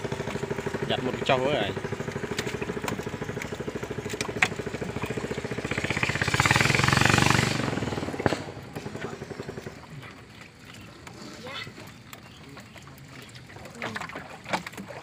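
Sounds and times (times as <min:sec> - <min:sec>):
small engine putter: 0:00.0 - 0:15.0.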